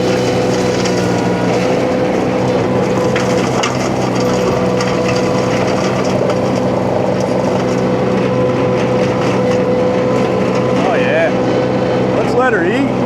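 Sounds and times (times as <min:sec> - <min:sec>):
brush and wood shredding crackle: 0:00.0 - 0:11.5
flail mulcher whine: 0:00.0 - 0:13.0
skid steer engine under load: 0:00.0 - 0:13.0.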